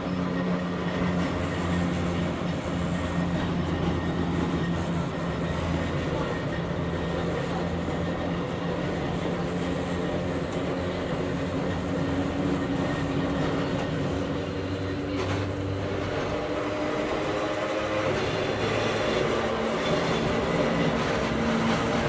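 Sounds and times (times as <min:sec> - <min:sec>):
train interior hum and rumble: 0:00.0 - 0:22.0.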